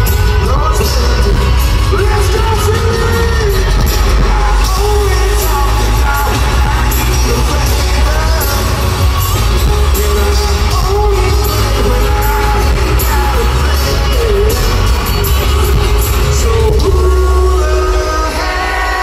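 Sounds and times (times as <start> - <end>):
loud live concert music: 0.0 - 19.0
person singing long sliding notes: 0.0 - 19.0.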